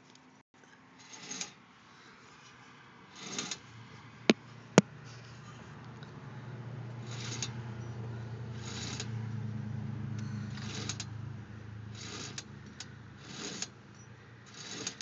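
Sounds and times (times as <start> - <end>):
wheel hub scraping: 0.6 - 15.0.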